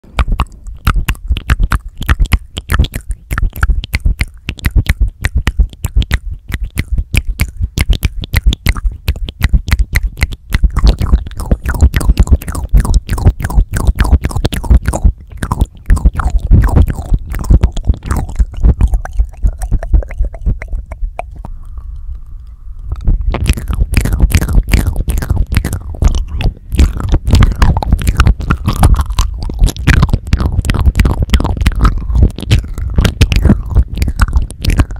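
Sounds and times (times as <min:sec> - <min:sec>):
wet mouth sounds and licking: 0:00.0 - 0:34.9.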